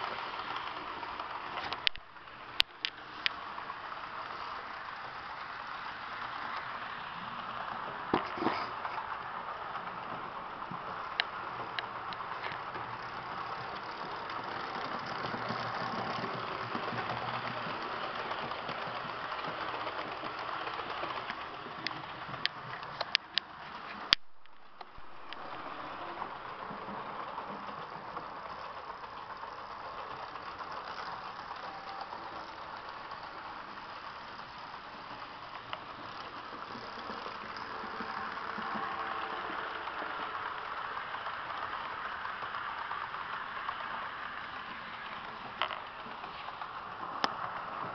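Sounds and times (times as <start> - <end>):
model trains whirring on track: 0.0 - 47.9.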